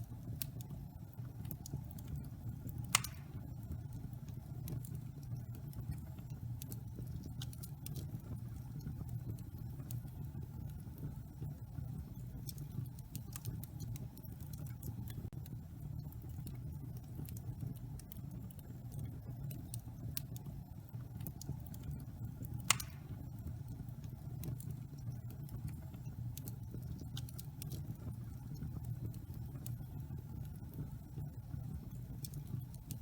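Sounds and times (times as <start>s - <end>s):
fire rumbling in fireplace: 0.0s - 33.0s
wood fire crackling: 0.0s - 33.0s.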